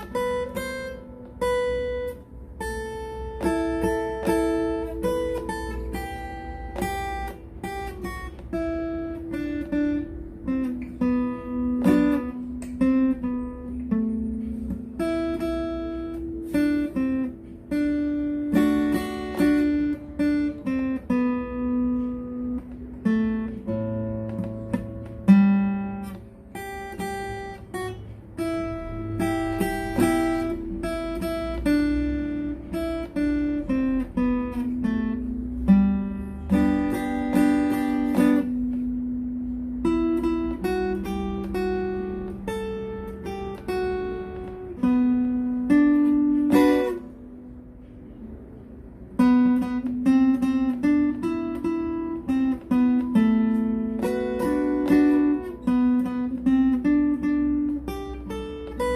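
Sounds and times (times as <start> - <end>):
acoustic guitar picking: 0.0 - 58.9
strummed guitar chord: 0.0 - 58.9.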